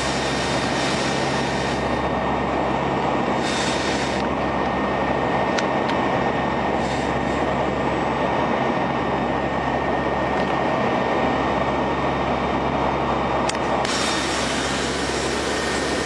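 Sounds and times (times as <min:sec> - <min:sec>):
aircraft cabin engine hum: 0:00.0 - 0:16.0.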